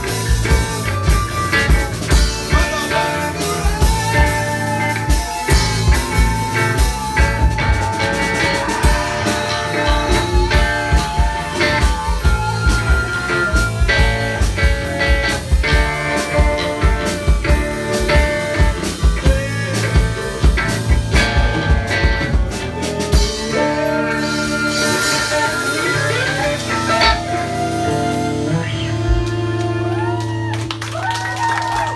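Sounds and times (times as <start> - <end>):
bass guitar: 0.0 - 31.9
drum kit: 0.0 - 31.9
electric guitar: 0.0 - 31.9.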